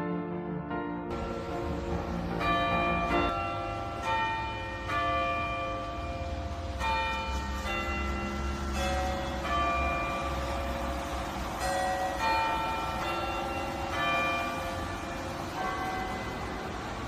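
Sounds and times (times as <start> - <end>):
clock tower bells chiming: 1.1 - 17.0
low rumble of outdoor noise: 1.1 - 17.0.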